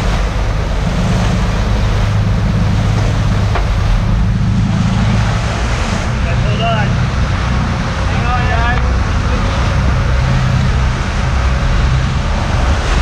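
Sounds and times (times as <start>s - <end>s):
boat engine droning: 0.0s - 13.0s
wake water rushing: 0.0s - 13.0s
wind on microphone: 0.0s - 13.0s.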